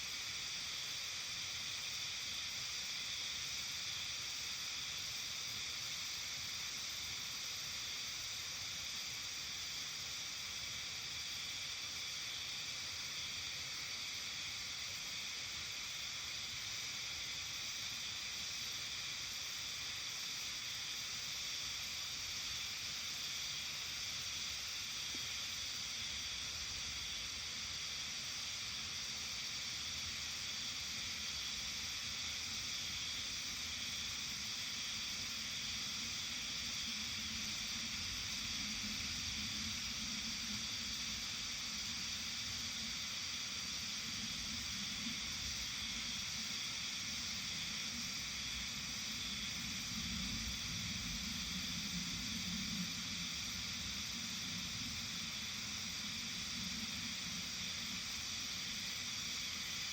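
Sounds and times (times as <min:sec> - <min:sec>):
high-pitched hiss-like chorus: 0:00.0 - 0:59.9.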